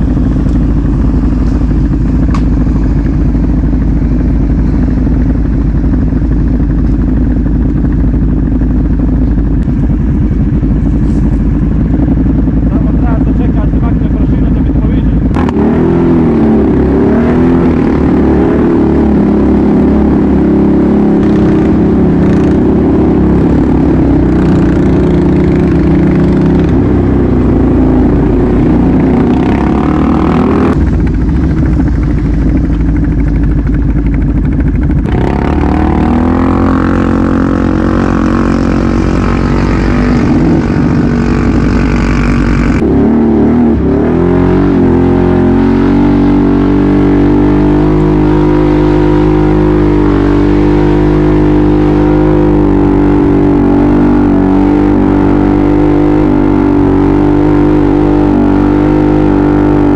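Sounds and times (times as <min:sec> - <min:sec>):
atv engines running: 0:00.0 - 0:59.9.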